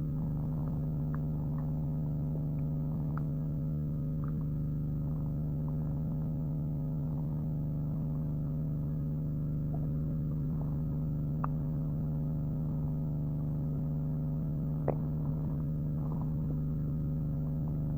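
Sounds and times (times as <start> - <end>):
squeaky stomach gurgles: 0.0 - 17.9
stomach growling: 0.0 - 17.9.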